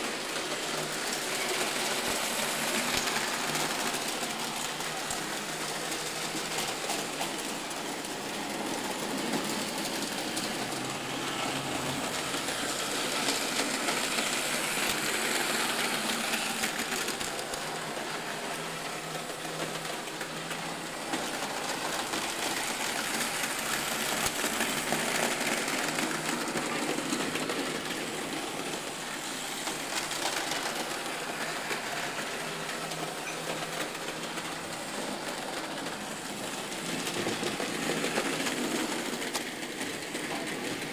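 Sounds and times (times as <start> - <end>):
model train motors whirring: 0.0 - 40.9
wheels rattling over track: 0.1 - 40.9.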